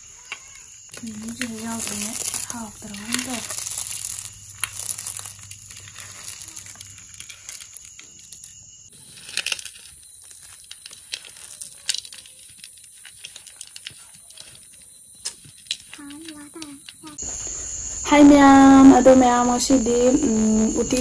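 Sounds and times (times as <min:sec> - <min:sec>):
small clicks and crinkling: 0:00.2 - 0:17.3.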